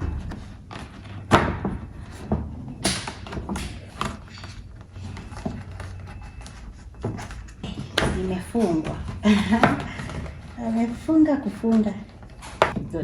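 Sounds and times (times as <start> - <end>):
sharp knocks and clatters: 0.0 - 10.6.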